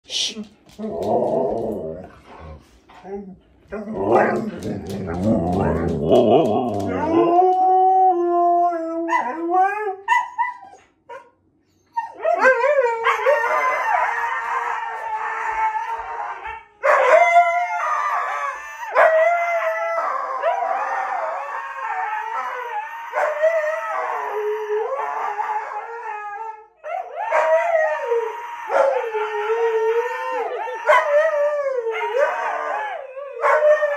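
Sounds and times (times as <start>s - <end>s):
dogs howling: 0.7s - 10.8s, 11.9s - 33.9s.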